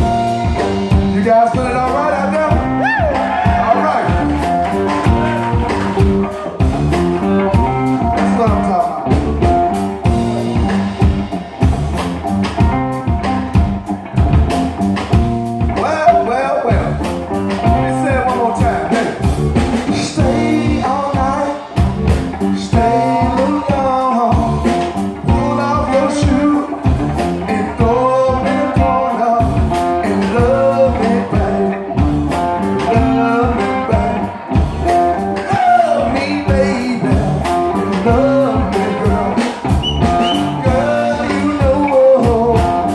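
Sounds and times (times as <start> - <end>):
drum kit: 0.0 - 42.9
electric guitars: 0.0 - 42.9
man singing: 0.4 - 6.6, 7.5 - 9.5, 15.7 - 42.9.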